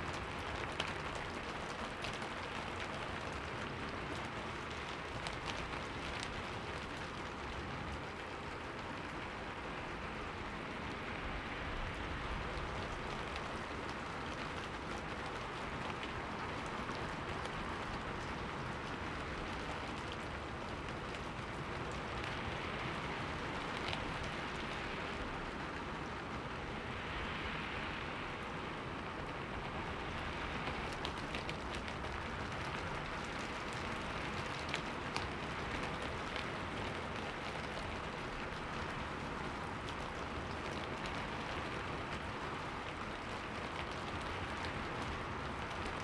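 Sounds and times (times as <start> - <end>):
rain pattering on a window: 0.0 - 46.0.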